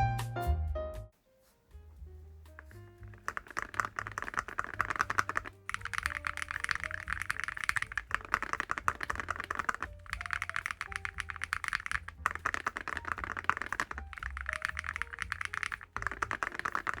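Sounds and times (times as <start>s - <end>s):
soft background music: 0.0s - 17.0s
mechanical keyboard typing: 2.6s - 17.0s.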